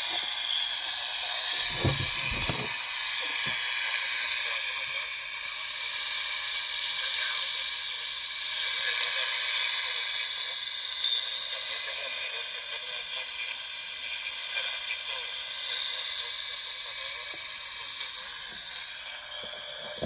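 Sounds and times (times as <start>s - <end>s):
shortwave radio static hiss: 0.0s - 20.0s.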